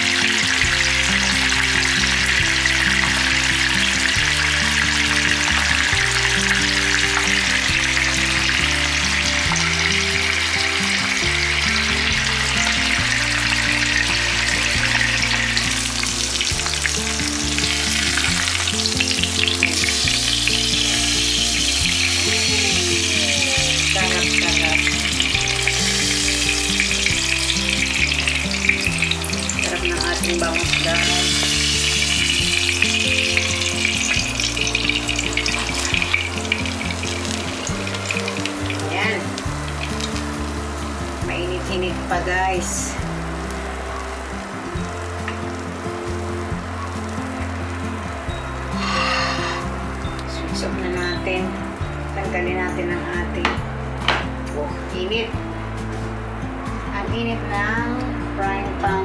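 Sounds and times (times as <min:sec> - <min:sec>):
fish sizzling in oil: 0:00.0 - 0:56.9.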